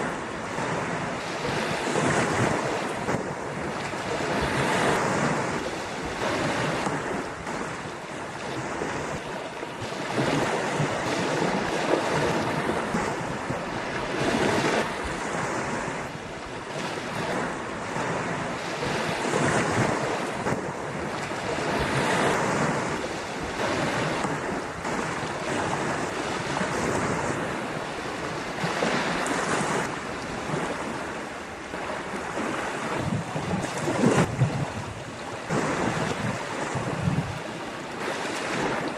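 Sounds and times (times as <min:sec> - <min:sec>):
ocean surf breaking on beach: 0:00.0 - 0:38.9
wind buffeting microphone: 0:00.0 - 0:38.9.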